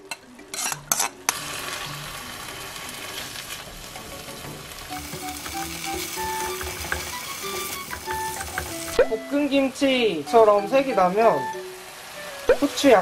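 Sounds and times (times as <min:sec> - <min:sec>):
soft background music: 0:00.0 - 0:13.0
food sizzling in oil: 0:00.5 - 0:13.0.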